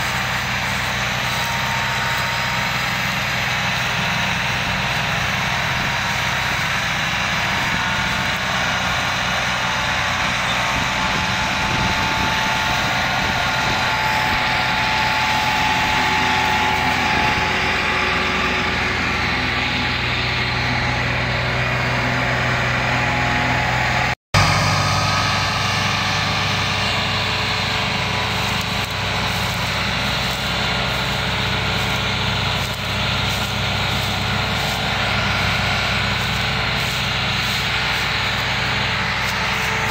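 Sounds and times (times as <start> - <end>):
diesel tractor engines under load: 0.0 - 39.9.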